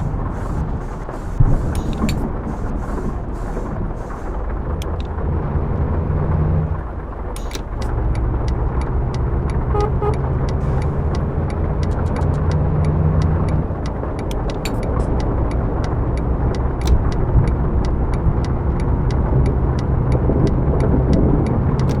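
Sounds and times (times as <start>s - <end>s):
sharp ticks: 0.0s - 5.3s, 6.8s - 22.0s
bus diesel engine running: 0.0s - 22.0s.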